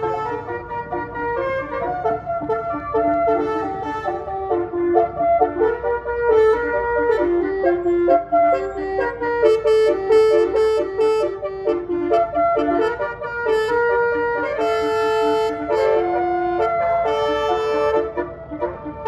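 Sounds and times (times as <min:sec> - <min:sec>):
bus horn playing a tune: 0:00.0 - 0:19.0.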